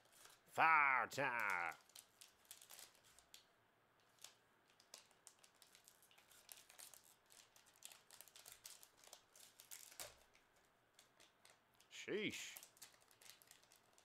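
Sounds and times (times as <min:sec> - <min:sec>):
foil wrapper crinkling: 0:01.3 - 0:11.9, 0:12.6 - 0:14.0.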